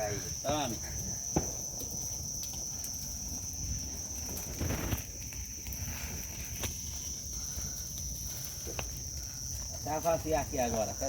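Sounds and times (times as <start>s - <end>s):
bonfire crackling: 0.0s - 11.0s
crickets chirping: 0.0s - 11.0s.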